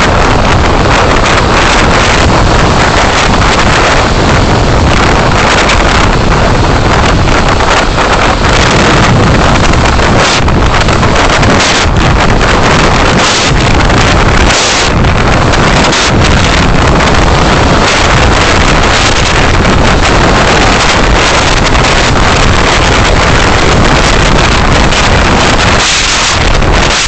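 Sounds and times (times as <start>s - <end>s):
microphone crackles: 0.0s - 27.0s
road noise: 0.0s - 27.0s
wind rushing: 0.0s - 27.0s.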